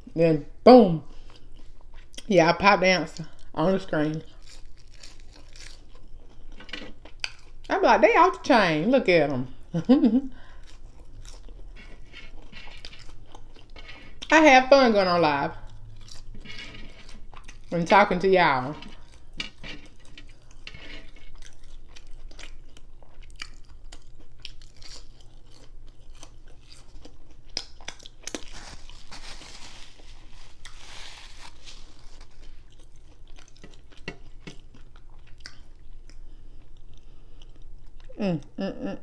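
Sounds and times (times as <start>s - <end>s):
person chewing crunchy food: 1.1s - 2.3s, 3.3s - 7.7s, 9.6s - 14.3s, 15.6s - 17.8s, 18.6s - 38.2s.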